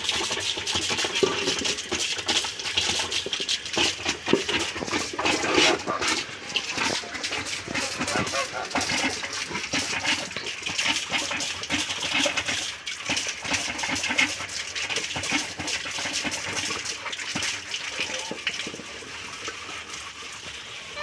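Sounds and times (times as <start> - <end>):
water splashing: 0.0 - 20.3
scrubbing metal pot: 0.0 - 21.0.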